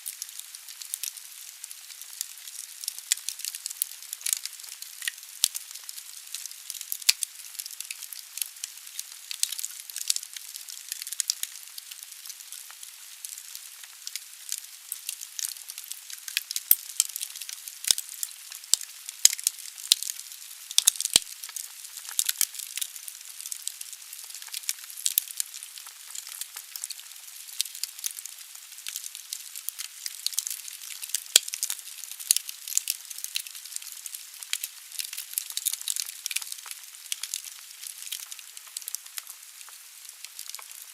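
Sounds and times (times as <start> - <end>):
burning logs crackling and popping: 0.0 - 40.9.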